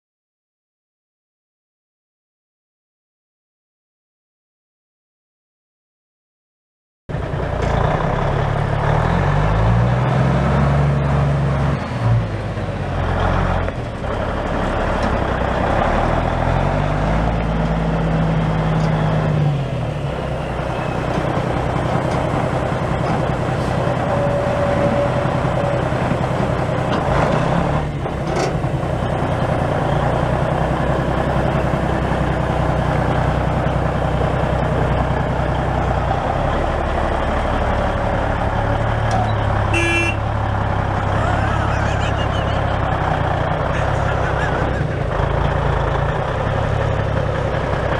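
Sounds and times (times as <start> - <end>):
diesel truck engine running: 7.1 - 47.9.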